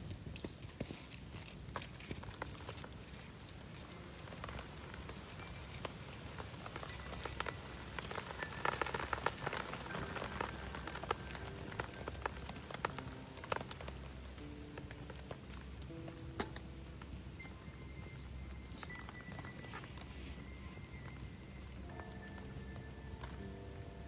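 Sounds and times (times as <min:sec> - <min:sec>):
campfire crackling: 0:00.0 - 0:24.0
rain pattering: 0:00.0 - 0:24.0.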